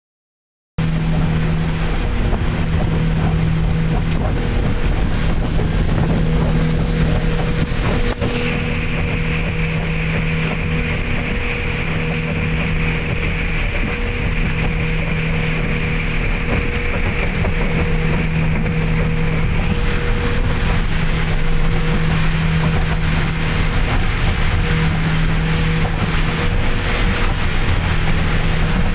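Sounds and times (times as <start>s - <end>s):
rush of wind and water: 0.8s - 28.9s
speedboat engine droning: 0.8s - 28.9s.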